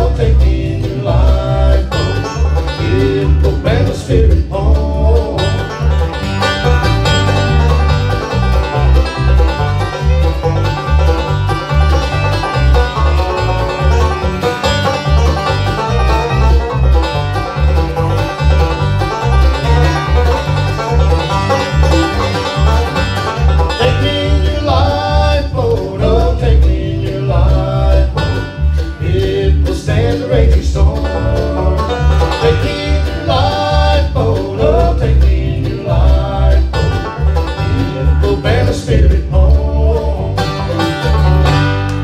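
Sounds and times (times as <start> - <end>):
banjo rolls: 0.0 - 42.0
electric bass: 0.0 - 42.0
fiddle: 0.0 - 42.0
strummed acoustic guitar: 0.0 - 42.0.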